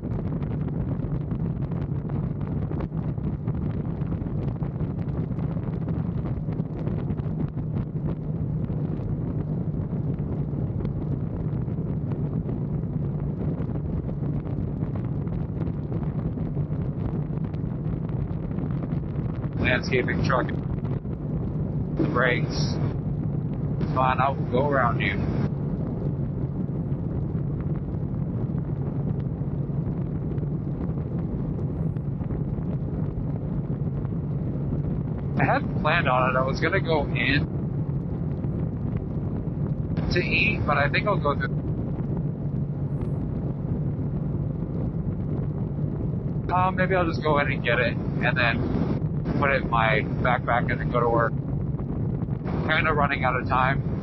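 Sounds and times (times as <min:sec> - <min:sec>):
motorcycle engine humming: 0:00.0 - 0:50.6
wind rush on microphone: 0:00.0 - 0:54.0.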